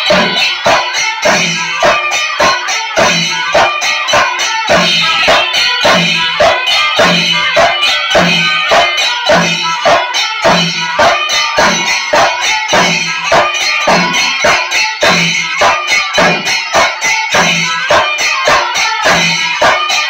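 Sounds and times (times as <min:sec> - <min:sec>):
shrill pipe melody: 0:00.0 - 0:19.8
drums beaten with sticks: 0:00.0 - 0:20.0.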